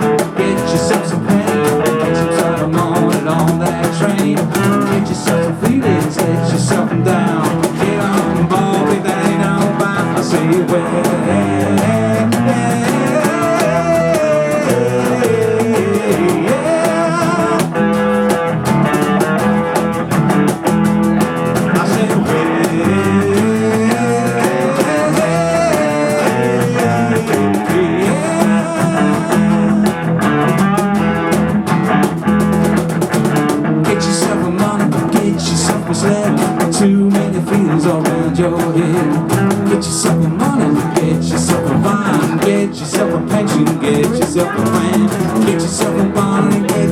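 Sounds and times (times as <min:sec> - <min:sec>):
bending lead melody: 0:00.0 - 0:46.9
drum kit: 0:00.0 - 0:46.9
electric guitar: 0:00.0 - 0:46.9
rock band playing: 0:00.0 - 0:46.9.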